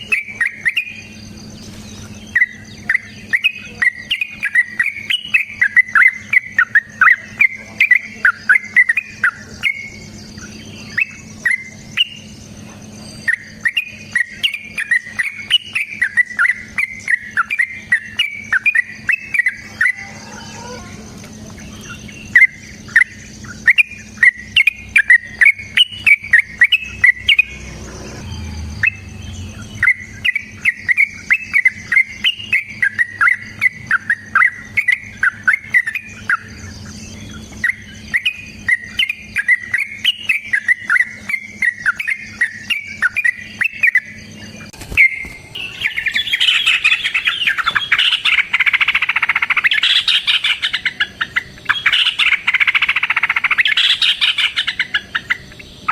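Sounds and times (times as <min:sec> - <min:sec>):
bulbul singing rapid chirps: 0:00.0 - 0:55.9.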